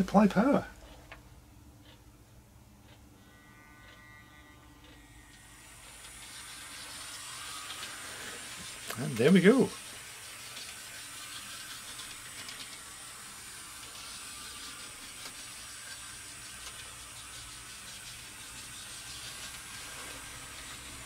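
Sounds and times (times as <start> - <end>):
model locomotive motor whirr: 2.8 - 21.0.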